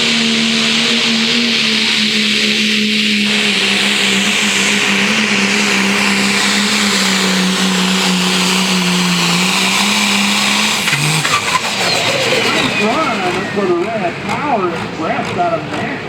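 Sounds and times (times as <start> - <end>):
diesel engine at high revs: 0.0 - 16.0.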